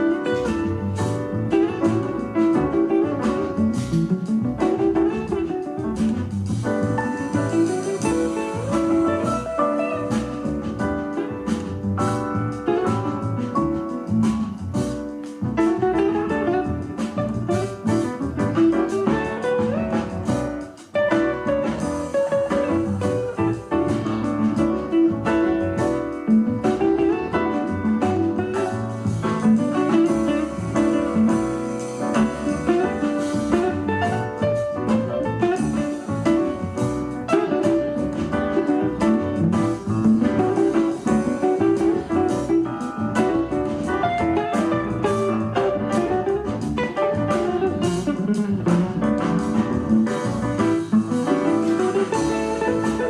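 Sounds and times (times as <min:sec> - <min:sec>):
bluesy jazzy guitar instrumental: 0:00.0 - 0:53.0.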